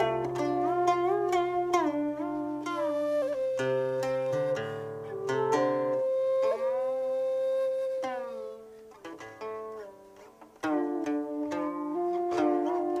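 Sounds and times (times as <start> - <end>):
guqin plucked with sliding pitches: 0.0 - 13.0.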